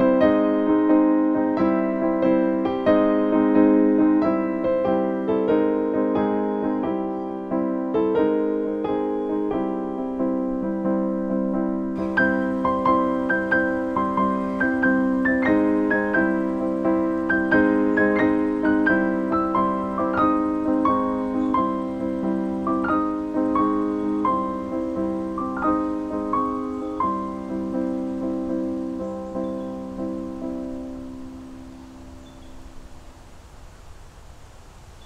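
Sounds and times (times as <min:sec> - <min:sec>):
gentle piano music: 0:00.0 - 0:33.4.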